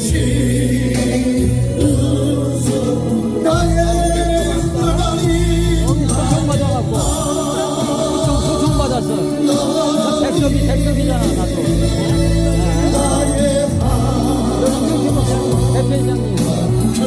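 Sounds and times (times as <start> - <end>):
band accompaniment: 0.0 - 17.0
percussion: 0.0 - 17.0
steady bass line: 0.0 - 17.0
worship singing: 0.0 - 17.0.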